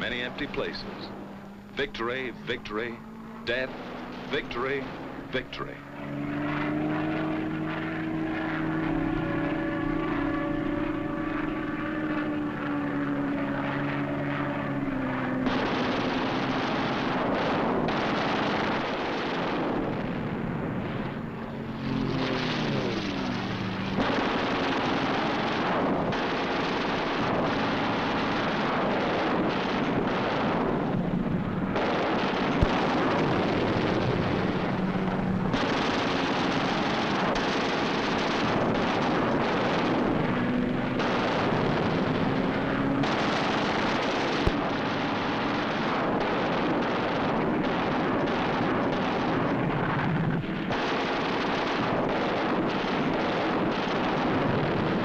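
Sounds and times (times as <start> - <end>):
short falling whine: 0.0 - 50.6
droning aircraft engine: 0.0 - 55.0
harsh rushing roar: 0.0 - 55.0.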